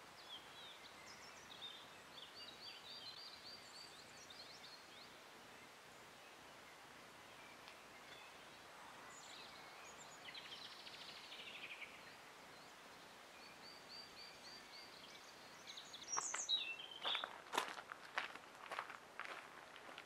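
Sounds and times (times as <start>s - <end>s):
faint outdoor background noise: 0.0s - 20.0s
small birds chirping: 0.0s - 20.0s.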